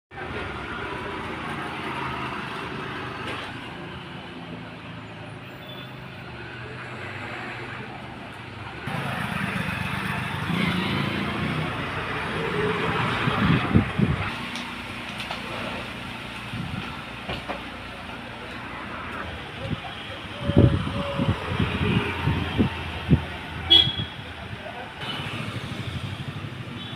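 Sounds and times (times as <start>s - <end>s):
road traffic passing: 0.1s - 26.9s.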